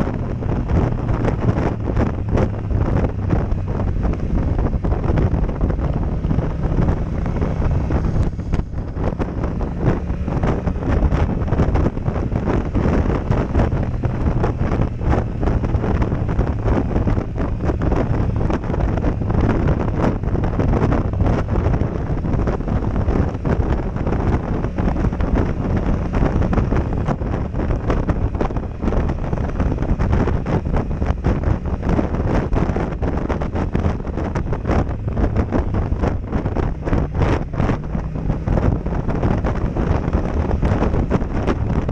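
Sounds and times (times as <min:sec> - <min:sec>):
motorcycle engine running: 0:00.0 - 0:41.9
wind buffeting microphone: 0:00.0 - 0:41.9.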